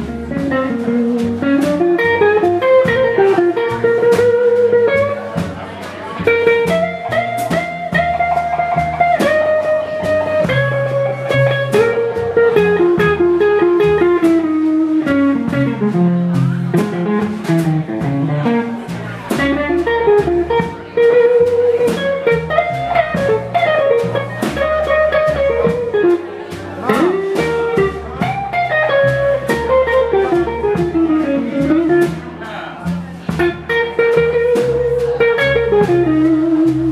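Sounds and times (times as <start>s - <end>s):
electric guitar solo: 0.0s - 5.2s, 6.2s - 16.2s, 19.4s - 32.0s, 33.4s - 36.9s
drum and cymbal hits: 0.0s - 36.9s
upright bass: 0.0s - 36.9s.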